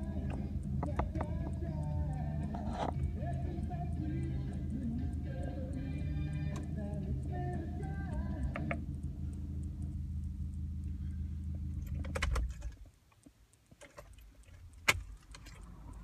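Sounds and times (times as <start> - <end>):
car radio music: 0.0 - 16.0
low steady rumble: 0.0 - 16.0.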